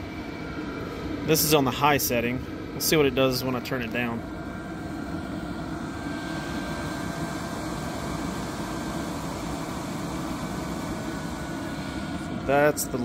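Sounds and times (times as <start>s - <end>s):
air heater rushing drone: 0.0s - 13.0s
faint thin whine: 0.0s - 13.0s.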